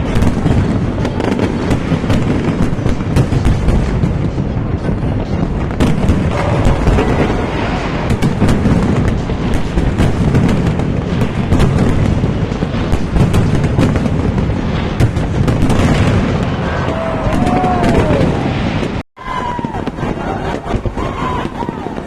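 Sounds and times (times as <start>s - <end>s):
fireworks booming and cracking: 0.0s - 22.0s.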